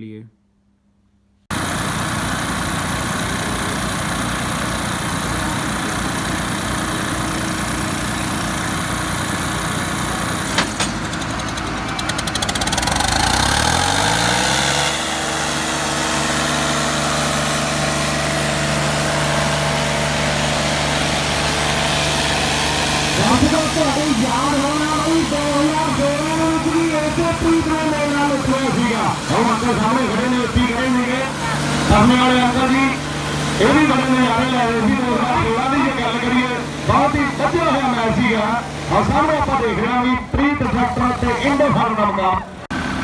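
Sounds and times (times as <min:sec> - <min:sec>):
tractor engines working hard: 0:01.5 - 0:43.0.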